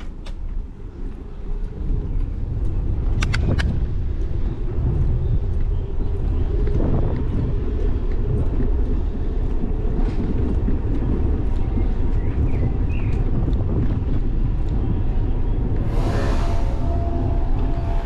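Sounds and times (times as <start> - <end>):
bicycle tyres rolling on brick: 0.0 - 18.0
wind rumble on microphone: 0.0 - 18.0.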